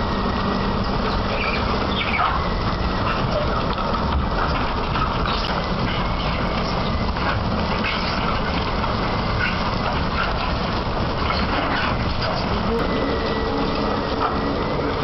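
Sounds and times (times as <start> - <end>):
excavator mechanical rumble: 0.0 - 15.0.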